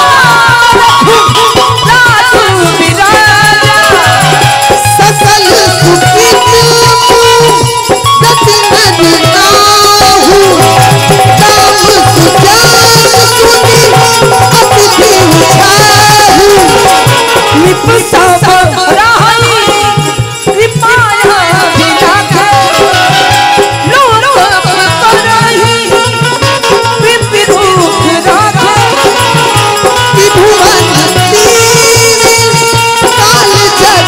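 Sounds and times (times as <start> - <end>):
hand drum beat: 0.0 - 34.0
harmonium notes: 0.0 - 34.0.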